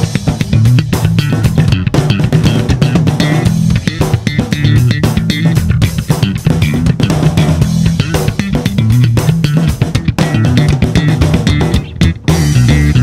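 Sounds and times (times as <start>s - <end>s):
band music with bass guitar and drums: 0.0s - 13.0s.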